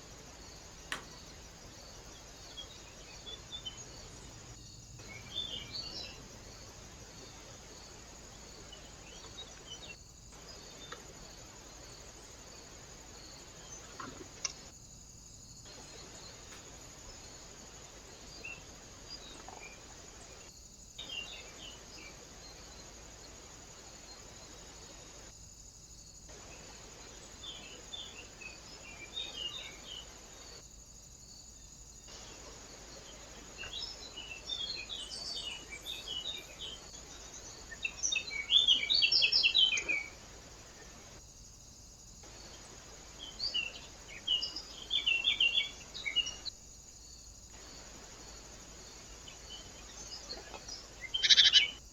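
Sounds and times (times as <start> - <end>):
small birds chirping: 0.0 - 14.8, 15.5 - 25.3, 31.9 - 41.2, 42.2 - 51.9
microphone hiss: 0.0 - 51.9.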